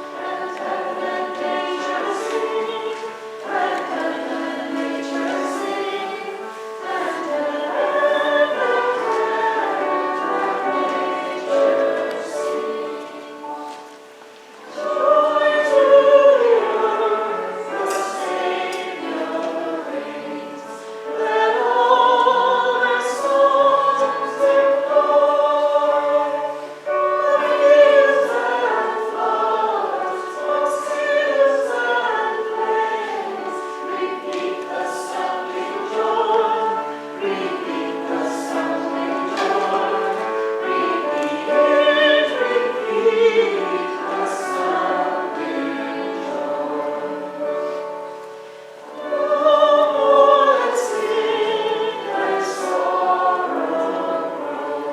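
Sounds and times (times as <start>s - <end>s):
church choir singing: 0.0s - 54.9s.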